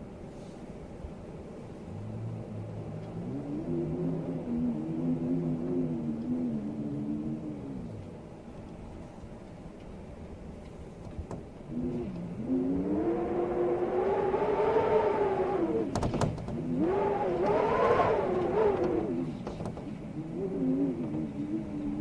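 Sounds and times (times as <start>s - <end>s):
storm wind howling: 0.0s - 22.0s.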